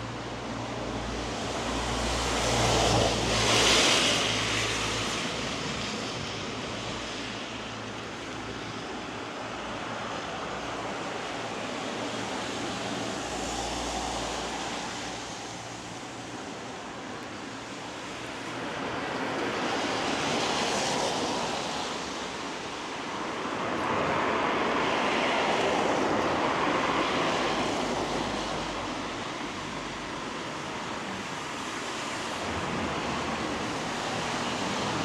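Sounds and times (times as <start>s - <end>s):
tyres on wet road: 0.0s - 35.0s.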